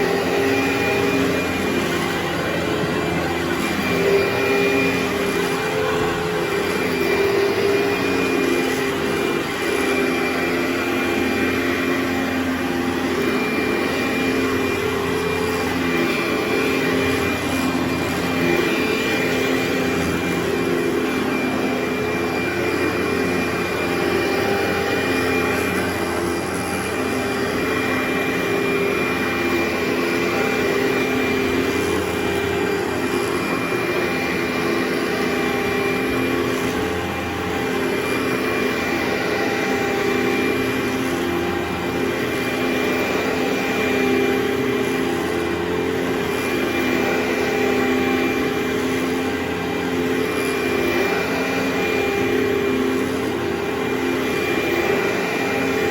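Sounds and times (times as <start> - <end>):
carpet cleaning machine humming: 0.0 - 55.9.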